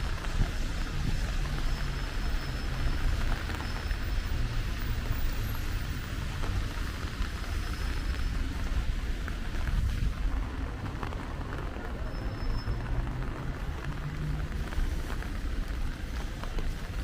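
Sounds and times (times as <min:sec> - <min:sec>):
rain: 0:00.0 - 0:17.0
traffic noise: 0:00.0 - 0:17.0.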